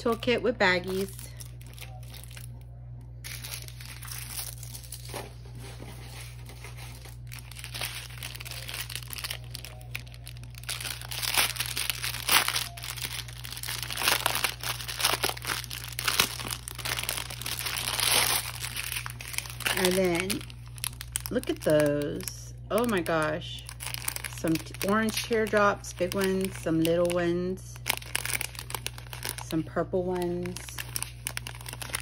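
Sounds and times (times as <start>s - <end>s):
plastic wrap crinkling: 0.0s - 32.0s.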